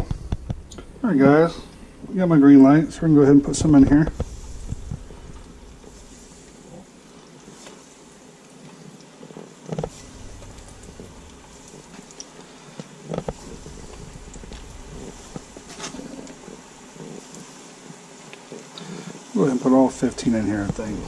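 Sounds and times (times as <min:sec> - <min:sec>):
oil sizzling and bubbling: 0:00.0 - 0:21.0.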